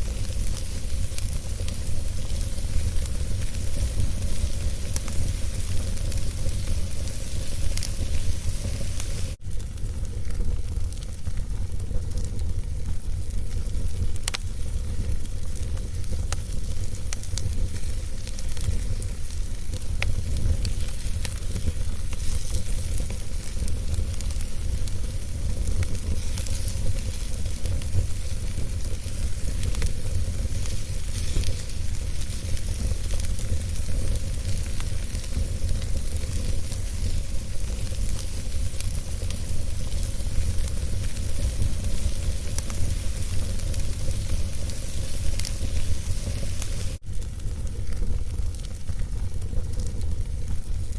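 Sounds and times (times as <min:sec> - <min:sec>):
steady hiss: 0:00.0 - 0:11.2, 0:11.8 - 0:50.9
wood fire crackling and popping: 0:00.0 - 0:50.9.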